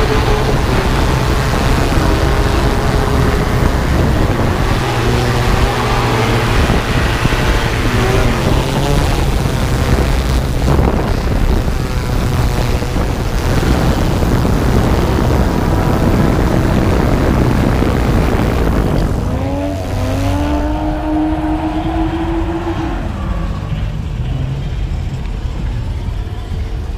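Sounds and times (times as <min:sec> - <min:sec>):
car engines revving: 0:00.0 - 0:26.9
drone rotors humming: 0:00.0 - 0:26.9.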